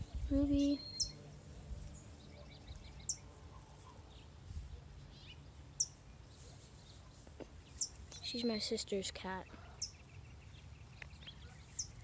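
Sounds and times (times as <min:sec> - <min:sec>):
small bird chirping: 0:00.0 - 0:01.3, 0:01.9 - 0:04.3, 0:05.0 - 0:12.0.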